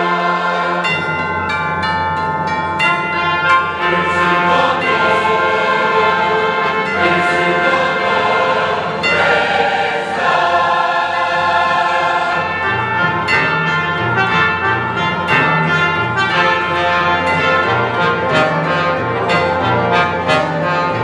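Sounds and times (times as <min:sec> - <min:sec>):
orchestra playing: 0:00.0 - 0:00.8, 0:01.8 - 0:21.0
choir singing: 0:00.0 - 0:01.2, 0:02.9 - 0:21.0.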